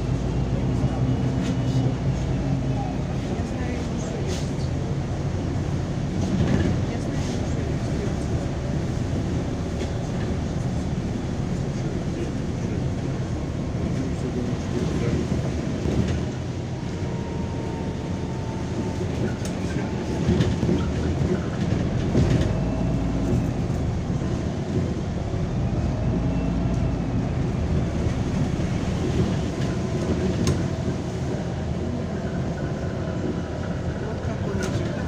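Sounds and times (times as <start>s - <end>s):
bus engine and road drone: 0.0s - 35.0s.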